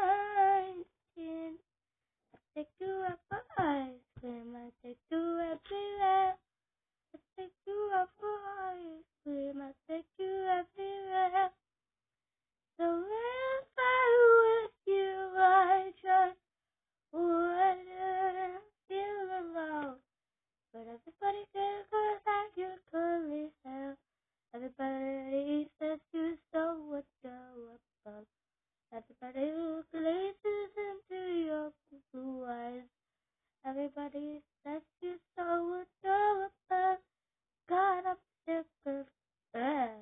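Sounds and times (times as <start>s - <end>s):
girl singing unaccompanied: 0.0s - 1.6s, 2.6s - 6.4s, 7.2s - 11.5s, 12.8s - 16.4s, 17.2s - 20.0s, 20.8s - 24.0s, 24.6s - 28.2s, 29.0s - 32.9s, 33.7s - 37.0s, 37.7s - 40.0s.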